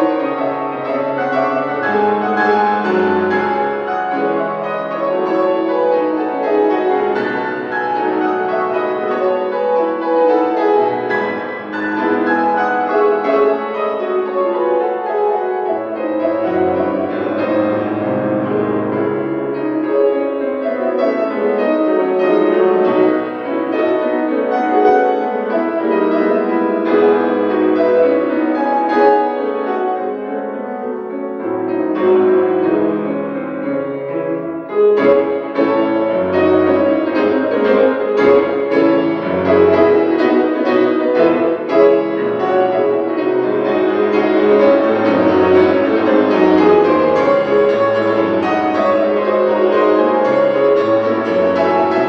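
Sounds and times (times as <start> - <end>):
solo grand piano playing: 0.0 - 52.0.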